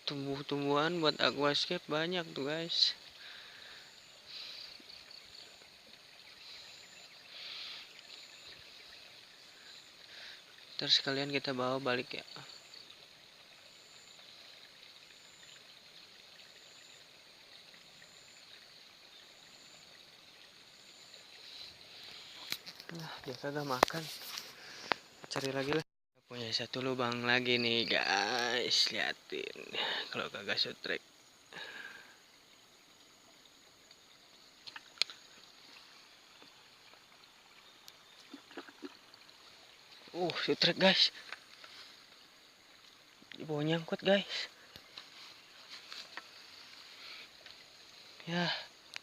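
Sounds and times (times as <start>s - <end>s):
faint running water hiss: 0.0s - 49.0s.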